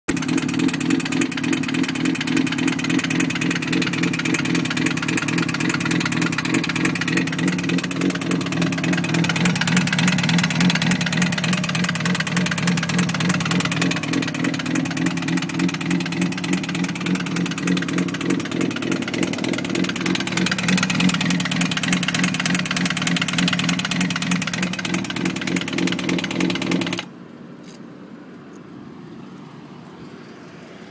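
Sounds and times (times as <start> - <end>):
motorcycle engine clattering: 0.1 - 27.8.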